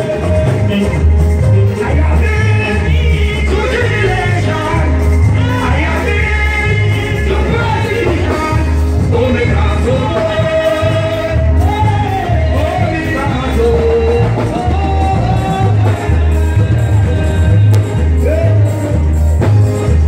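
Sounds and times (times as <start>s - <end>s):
voices singing into microphones: 0.0s - 19.1s
pulsing bass line: 0.0s - 20.0s.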